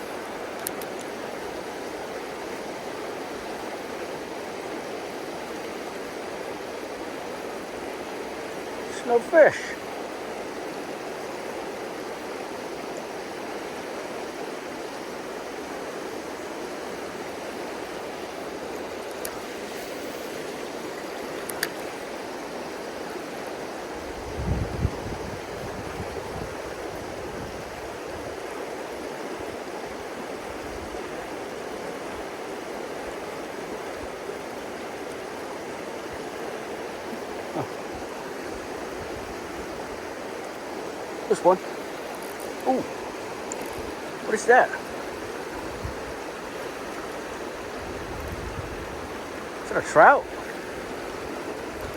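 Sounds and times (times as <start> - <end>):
river water over riffles: 0.0 - 51.9.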